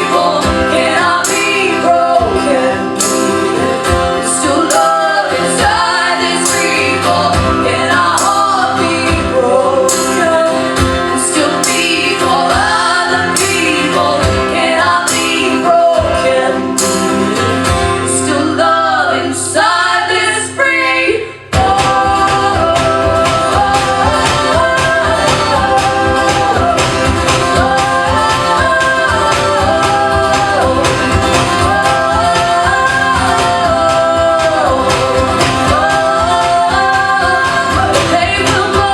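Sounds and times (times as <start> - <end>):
instrumental accompaniment: 0.0 - 38.9
person singing folk song: 0.0 - 38.9.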